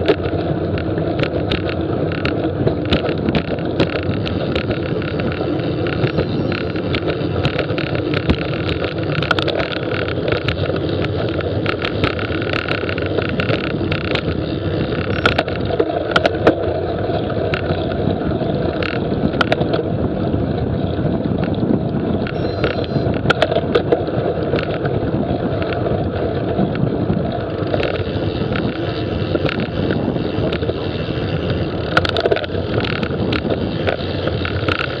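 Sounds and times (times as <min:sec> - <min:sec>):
bike clicks and rattles: 0:00.0 - 0:35.0
road noise: 0:00.0 - 0:35.0
wind on microphone: 0:00.0 - 0:35.0.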